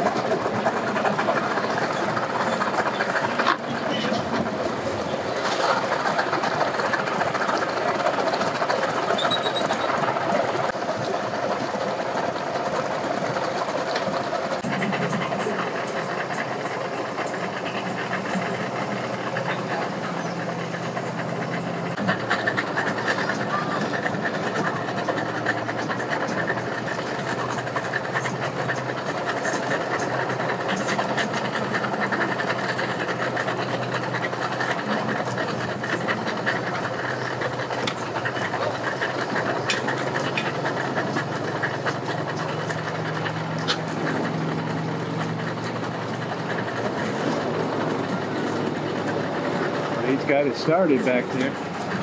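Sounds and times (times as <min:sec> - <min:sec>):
outboard motor idling: 0:00.0 - 0:52.0.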